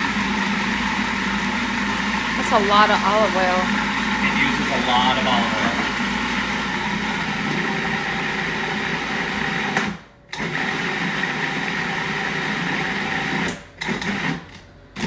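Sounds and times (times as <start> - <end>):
food processor motor running: 0.0 - 15.0.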